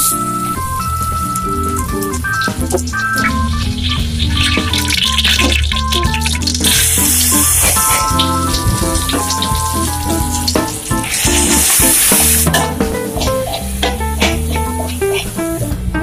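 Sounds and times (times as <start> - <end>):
chili paste sizzling in oil: 0.0 - 15.9
background music: 0.0 - 16.0.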